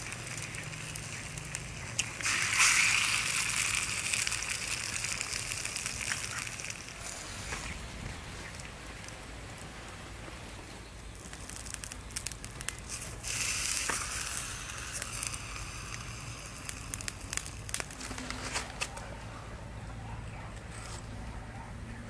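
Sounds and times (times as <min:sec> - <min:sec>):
banana leaf crinkling and rustling: 0:00.0 - 0:09.9, 0:11.0 - 0:19.5, 0:20.4 - 0:21.3
wood fire crackling: 0:00.0 - 0:21.1.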